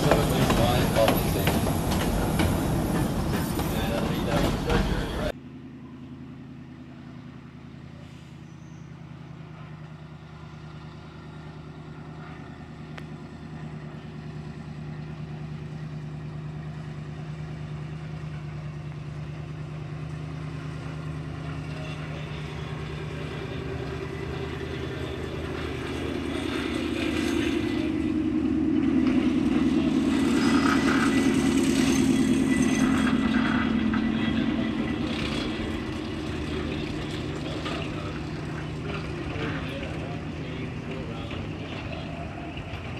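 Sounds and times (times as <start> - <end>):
locomotive engine drone: 0.0 - 42.9.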